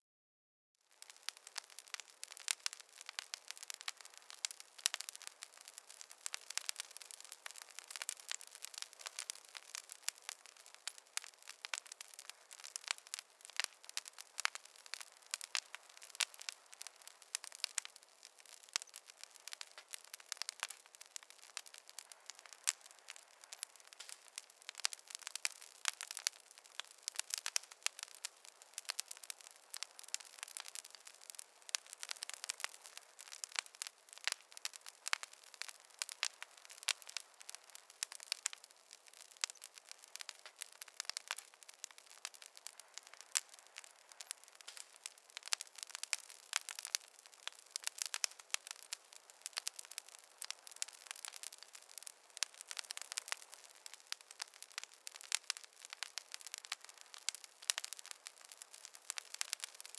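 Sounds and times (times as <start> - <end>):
campfire crackling and popping: 0.8 - 59.9
light hiss: 0.9 - 59.9.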